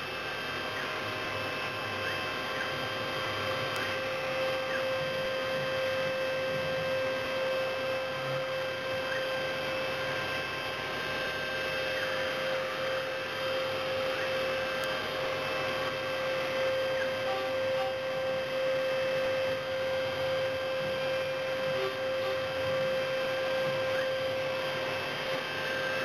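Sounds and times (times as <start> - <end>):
milling machine spindle whine: 0.0 - 26.0
noisy background: 0.0 - 26.0.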